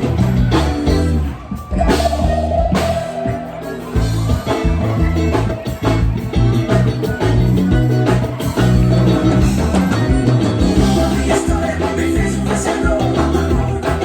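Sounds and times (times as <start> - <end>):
bass line: 0.0 - 14.0
live band playing: 0.0 - 14.0
steady drum beat: 0.0 - 14.0.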